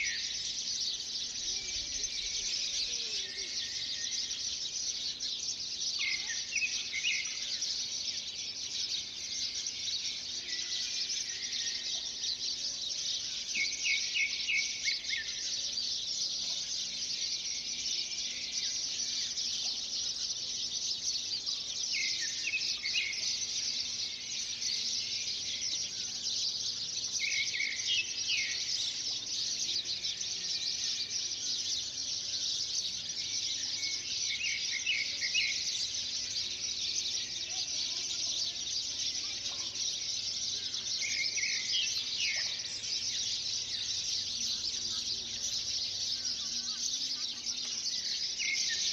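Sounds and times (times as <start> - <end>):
birds chirping: 0.0 - 48.9
insect chorus: 0.0 - 48.9.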